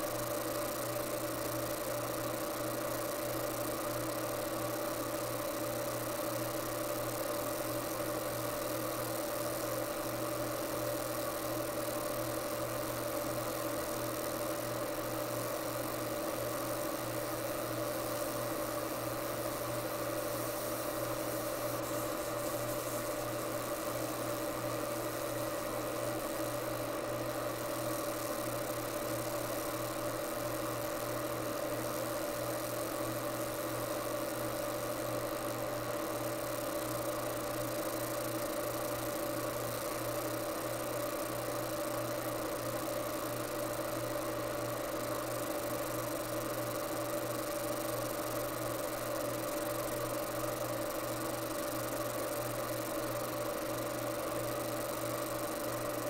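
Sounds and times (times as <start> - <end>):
laser engraver machine hum: 0.0 - 56.0.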